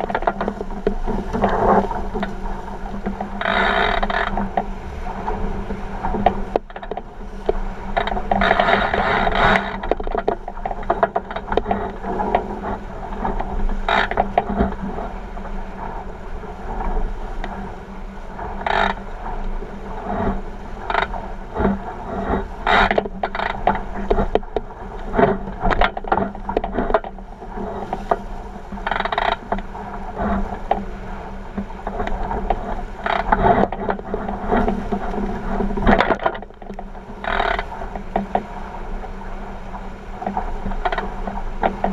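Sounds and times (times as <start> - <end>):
water rushing along hull: 0.0 - 41.9
waves slapping and splashing: 0.0 - 41.9.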